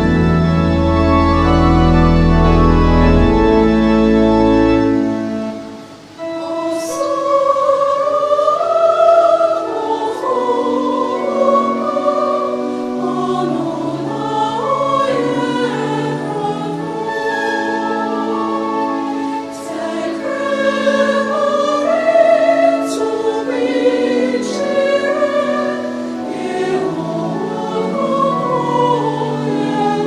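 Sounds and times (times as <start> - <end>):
choir singing: 0.0 - 30.0
organ chord: 0.0 - 30.0
sustained keyboard chords: 0.0 - 30.0.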